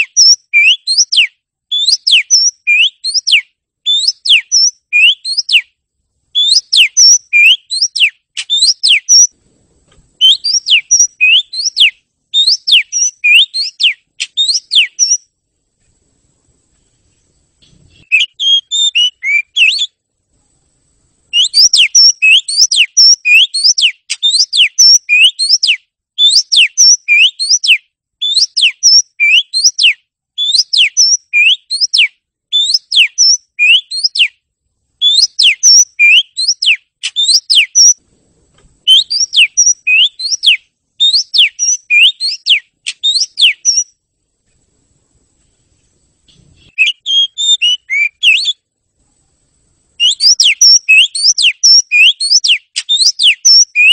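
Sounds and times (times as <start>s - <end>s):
songbird whistling song: 0.0s - 9.4s, 10.2s - 15.4s, 16.7s - 20.0s, 21.3s - 34.4s, 35.0s - 38.0s, 38.8s - 44.0s, 46.3s - 48.6s, 50.0s - 53.9s.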